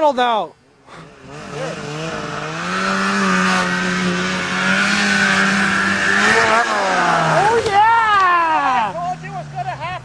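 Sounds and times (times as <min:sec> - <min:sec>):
snowmobile engine at high revs: 0:00.9 - 0:10.0.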